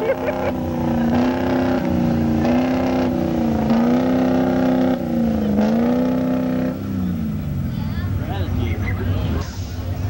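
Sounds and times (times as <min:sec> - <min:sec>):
diesel truck engine at high revs: 0:00.0 - 0:10.0.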